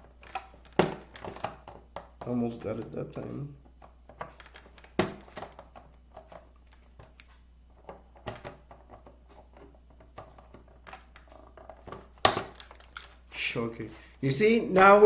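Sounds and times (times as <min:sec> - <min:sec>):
plastic clicks and rattles: 0:00.0 - 0:03.0, 0:03.7 - 0:13.2.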